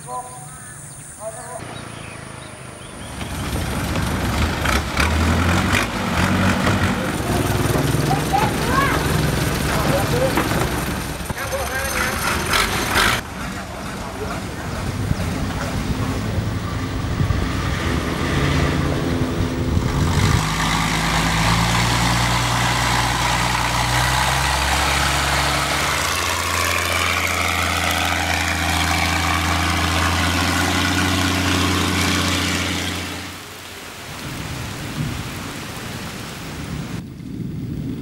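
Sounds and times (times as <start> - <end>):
boat engine running: 1.7 - 33.5
rushing water: 2.2 - 37.0.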